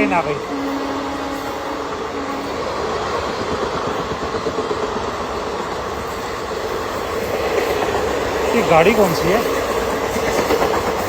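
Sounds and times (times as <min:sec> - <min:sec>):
train rumbling: 0:00.0 - 0:11.0
train wheels rattling on rails: 0:00.0 - 0:11.0.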